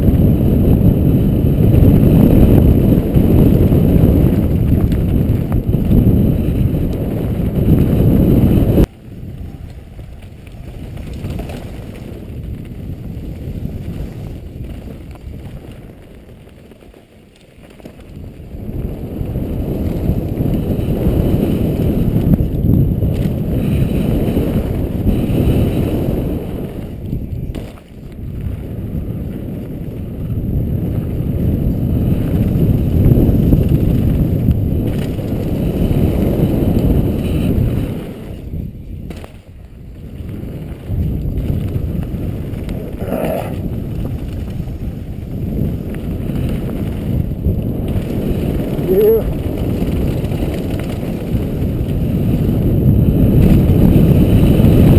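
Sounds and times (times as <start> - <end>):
tyres rolling on a dirt trail: 0.0 - 54.9
wind rushing over microphone: 0.0 - 54.9.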